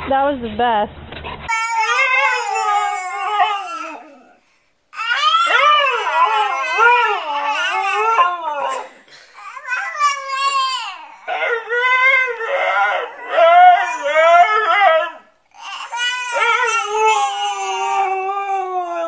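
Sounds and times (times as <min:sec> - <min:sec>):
dog howling: 0:01.5 - 0:04.4, 0:05.0 - 0:09.0, 0:09.6 - 0:19.0
husky yowling: 0:01.5 - 0:04.4, 0:05.0 - 0:08.9, 0:09.6 - 0:19.0.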